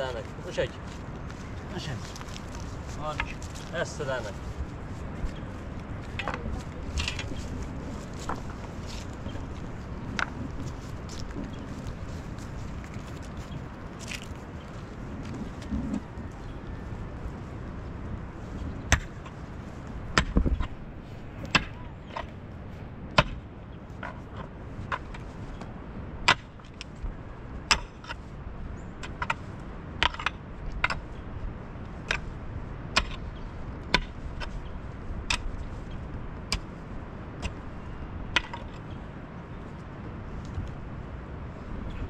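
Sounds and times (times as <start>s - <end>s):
steady background noise: 0.0s - 42.0s.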